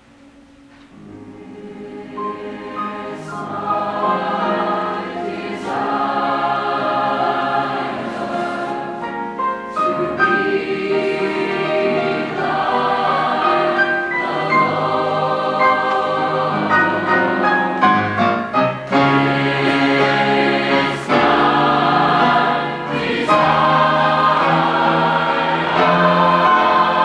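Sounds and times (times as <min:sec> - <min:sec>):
large choir singing gospel: 0:01.0 - 0:27.0.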